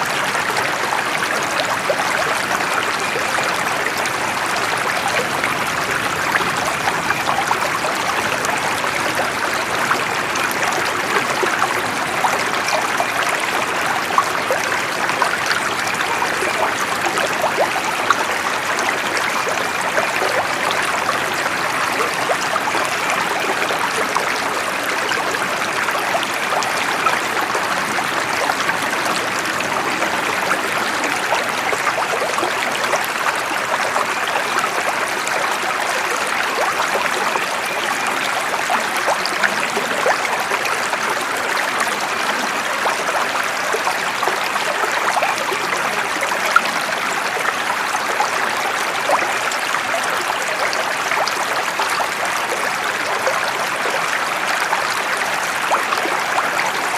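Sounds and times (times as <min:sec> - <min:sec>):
running water: 0:00.0 - 0:56.9.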